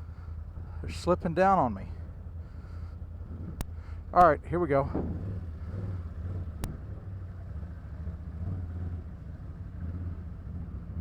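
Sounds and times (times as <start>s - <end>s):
atv engine running low speed: 0.0s - 11.0s.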